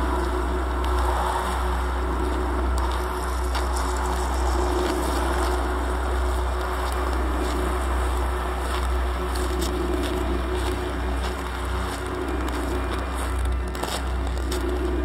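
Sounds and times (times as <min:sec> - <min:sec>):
dark ambient drone: 0:00.0 - 0:15.0.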